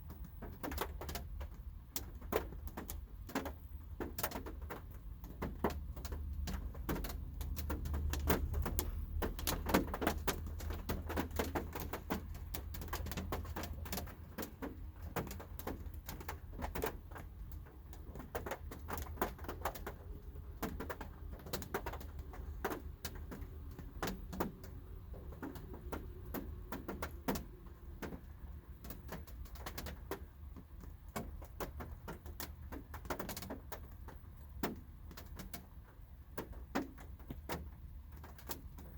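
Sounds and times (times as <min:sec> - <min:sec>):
raindrops tapping on car roof: 0:00.0 - 0:38.9.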